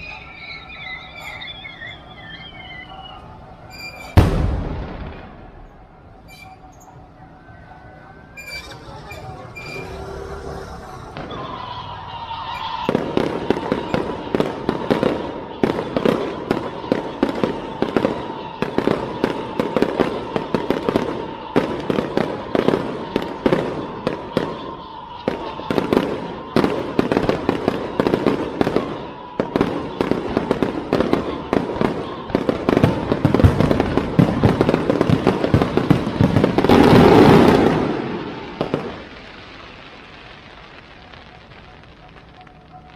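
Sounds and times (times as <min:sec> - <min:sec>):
fireworks cracking and banging: 0:00.0 - 0:42.9.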